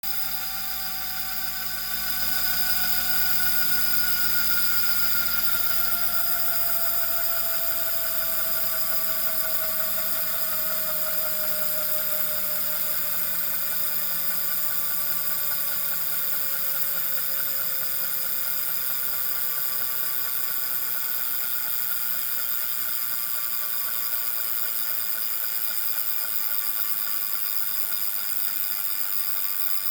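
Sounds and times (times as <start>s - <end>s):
bike trainer flywheel whine: 0.0s - 29.9s.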